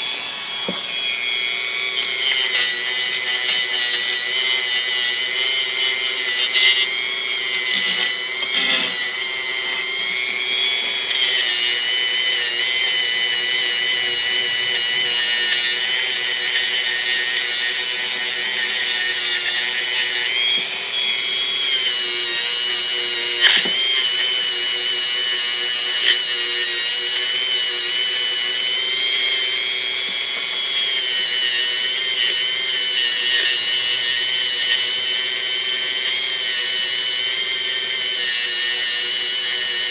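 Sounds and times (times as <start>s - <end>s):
high-speed power tool whining: 0.0s - 39.9s.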